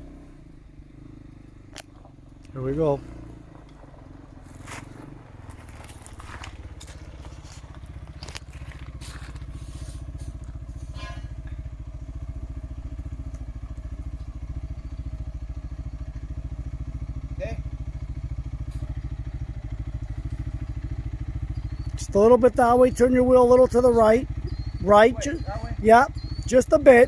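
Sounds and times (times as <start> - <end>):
utility vehicle engine pulsing: 0.0 - 27.0.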